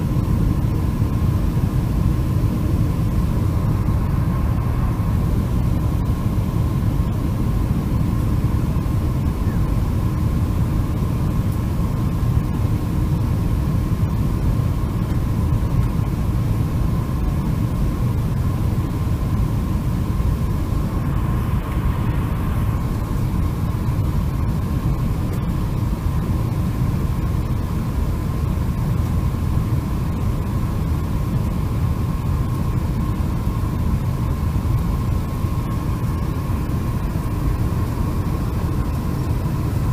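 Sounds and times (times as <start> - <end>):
airplane engines rumbling: 0.0 - 39.9.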